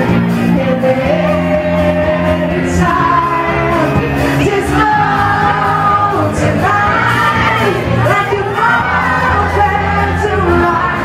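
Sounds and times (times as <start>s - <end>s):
pop-rock band playing: 0.0s - 11.0s
woman singing into a microphone: 0.4s - 11.0s.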